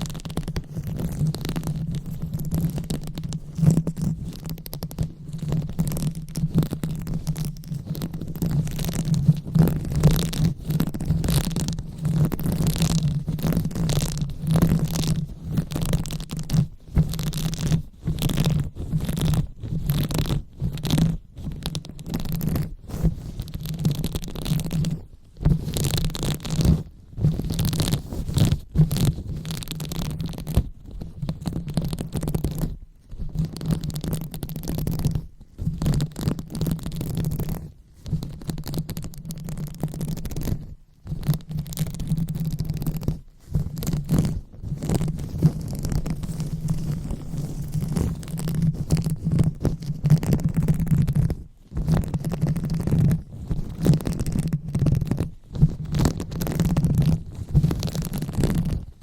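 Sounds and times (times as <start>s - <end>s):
fingers rubbing against microphone: 0.0s - 59.0s.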